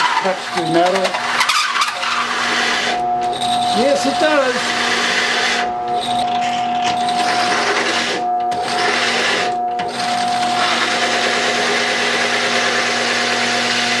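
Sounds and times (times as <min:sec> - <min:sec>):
hole saw grinding steel: 0:00.0 - 0:14.0
drill press motor hum: 0:00.6 - 0:14.0.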